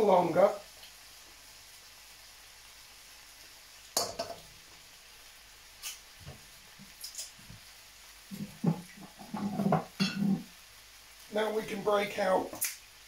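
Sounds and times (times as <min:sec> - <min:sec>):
beef sizzling in a wok: 0:00.0 - 0:13.0.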